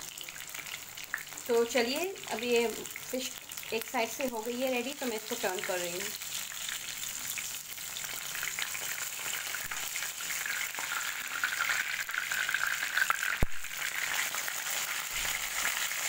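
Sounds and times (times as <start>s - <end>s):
fish sizzling in oil: 0.0s - 16.0s.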